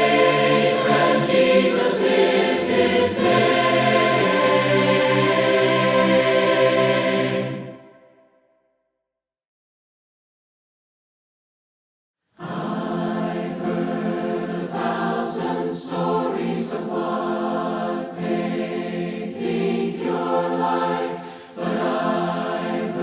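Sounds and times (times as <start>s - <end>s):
choir singing a hymn a cappella: 0.0s - 8.1s, 12.4s - 23.0s.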